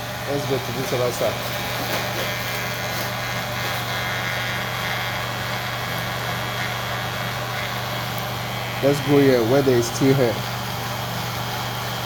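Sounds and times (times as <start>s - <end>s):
electric hair clipper humming: 0.0s - 12.0s.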